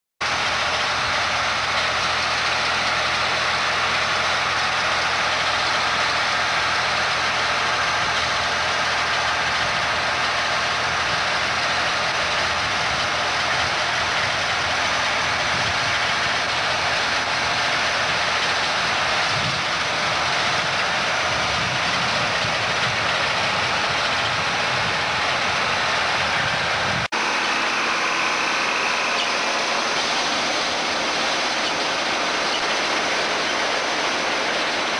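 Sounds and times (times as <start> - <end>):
harvester mechanical noise: 0.2 - 34.9
tractor engine running under load: 0.2 - 34.9.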